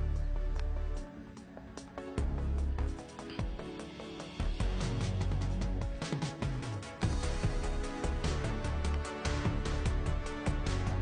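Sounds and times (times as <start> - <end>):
music with heavy beat and bass: 2.2 - 11.0.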